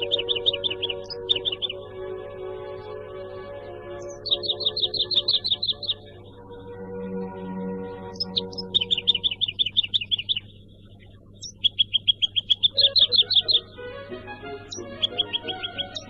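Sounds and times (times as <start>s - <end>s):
soft background music: 0.0s - 16.0s
songbird trills: 0.0s - 16.0s.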